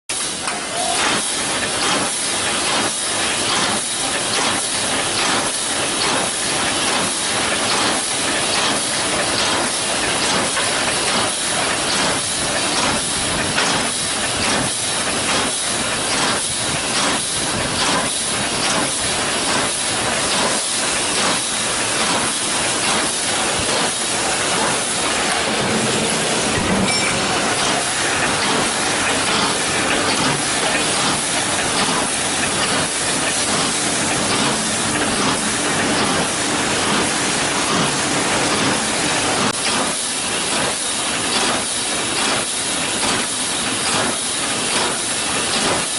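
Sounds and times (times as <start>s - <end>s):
welding machine clacking: 0.1s - 45.9s.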